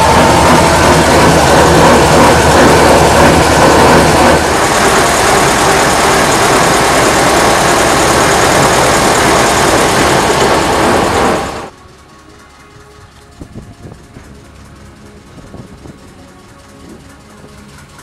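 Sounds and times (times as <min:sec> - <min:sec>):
diesel locomotive engine running: 0:00.0 - 0:18.0.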